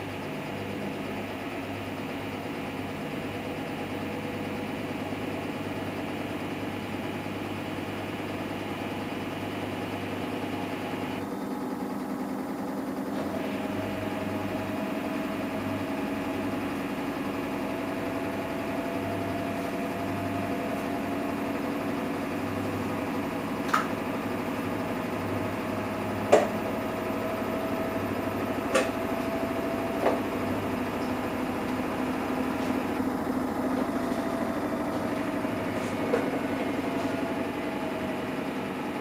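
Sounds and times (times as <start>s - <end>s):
washing machine motor hum: 0.0s - 39.0s.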